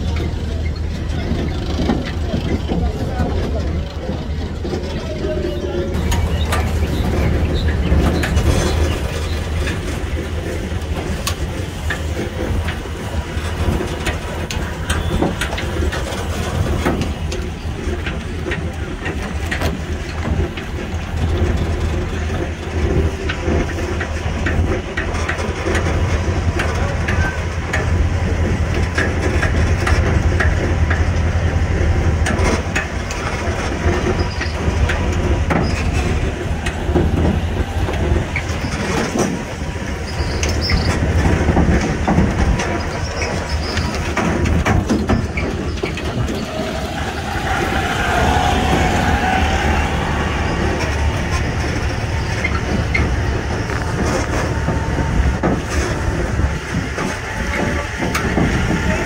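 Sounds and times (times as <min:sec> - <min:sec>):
carriages rattling and knocking: 0:00.0 - 0:59.0
low engine rumble: 0:00.0 - 0:59.0.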